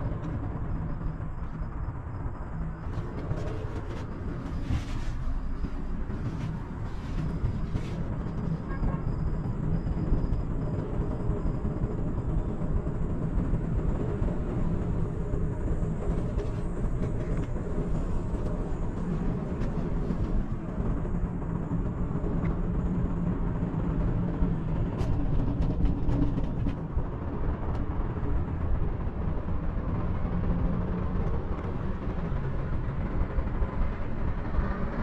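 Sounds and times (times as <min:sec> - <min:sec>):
cable car low rumble: 0:00.0 - 0:35.0.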